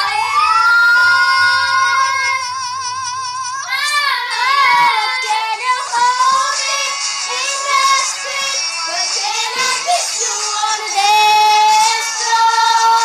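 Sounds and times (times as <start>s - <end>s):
child singing: 0.0s - 2.7s, 3.5s - 13.0s
backing music: 0.0s - 13.0s.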